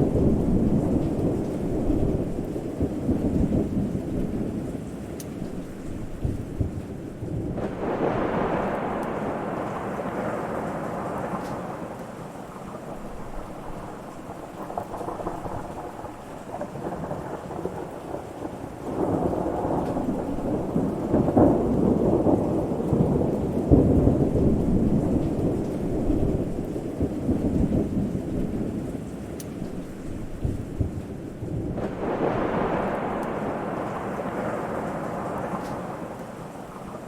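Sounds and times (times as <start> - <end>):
steady rain: 0.0 - 37.0
thunder rumbling: 0.0 - 37.0.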